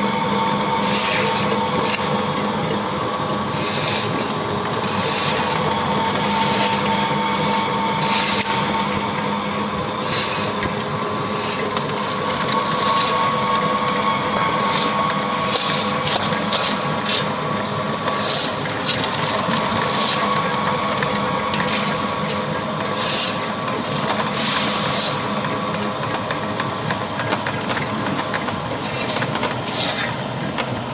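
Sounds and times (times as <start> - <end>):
constant mechanical hum: 0.0 - 30.9
pellet mill gears din: 0.0 - 30.9.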